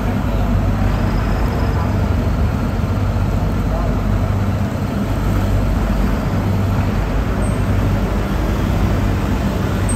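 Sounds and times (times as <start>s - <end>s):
constant noise wash: 0.0s - 9.9s
low engine hum: 0.0s - 9.9s.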